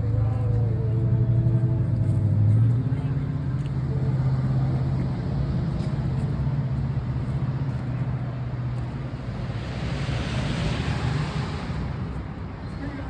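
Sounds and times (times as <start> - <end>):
car engine humming: 0.0 - 13.0
outdoor background noise: 0.0 - 13.0.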